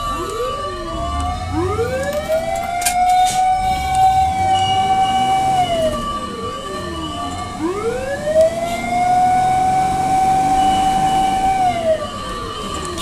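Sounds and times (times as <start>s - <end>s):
fire truck sirens wailing: 0.0s - 13.0s.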